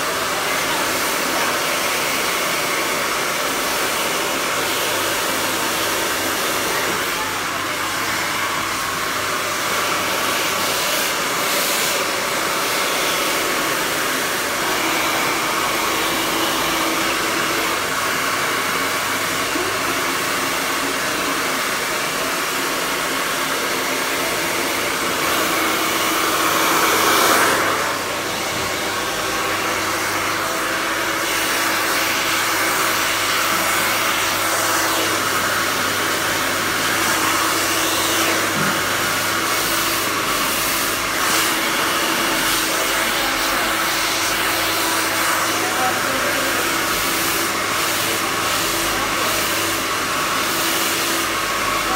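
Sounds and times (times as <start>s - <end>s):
hair dryer blowing: 0.0s - 51.9s.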